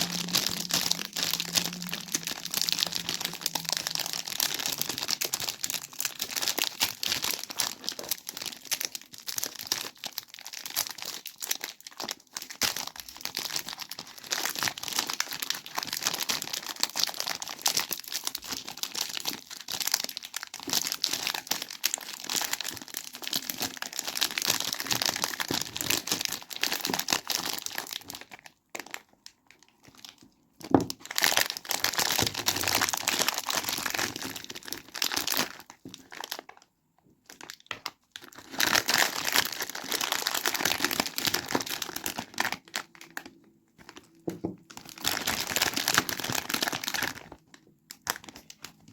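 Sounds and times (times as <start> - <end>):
wrapper crinkling and tearing: 0.0 - 48.9.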